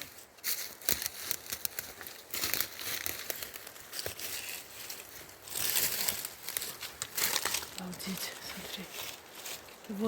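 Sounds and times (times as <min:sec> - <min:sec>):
dry leaves rustling and crackling: 0:00.0 - 0:10.0
twigs snapping: 0:00.4 - 0:09.9.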